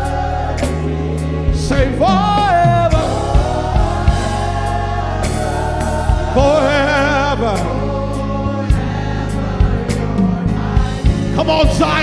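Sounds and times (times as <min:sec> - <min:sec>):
live band bass and drums: 0:00.0 - 0:12.0.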